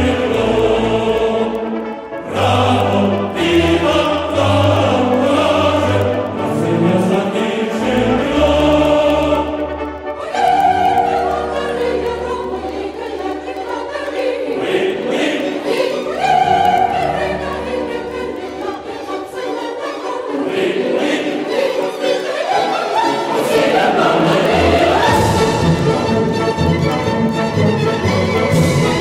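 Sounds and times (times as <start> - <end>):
choir singing held notes: 0.0 - 29.0.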